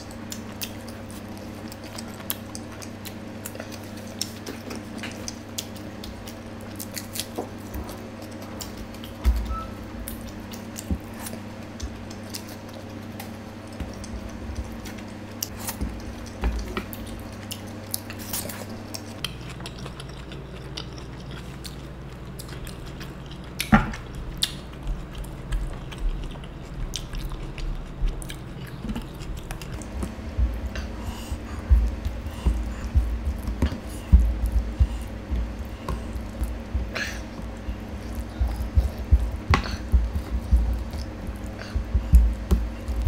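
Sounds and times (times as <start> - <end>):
chewing and wet mouth sounds: 0.0 - 43.0.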